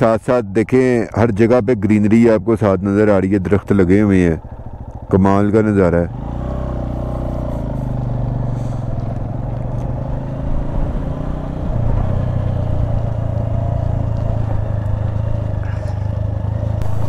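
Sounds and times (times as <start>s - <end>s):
motorcycle engine running: 0.0s - 17.0s
road and wind rumble: 0.0s - 17.0s.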